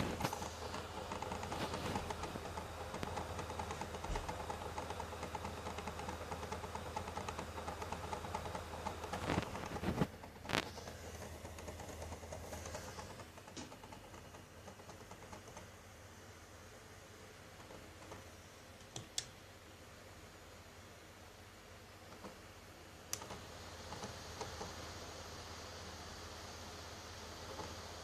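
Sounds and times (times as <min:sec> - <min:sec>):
disc drive clicking rattle: 0:00.0 - 0:19.3, 0:23.1 - 0:28.0.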